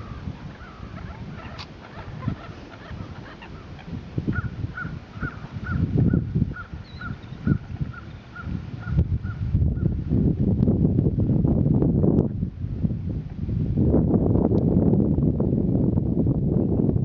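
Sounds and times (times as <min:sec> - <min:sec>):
low rumbling on microphone: 0:00.0 - 0:17.0.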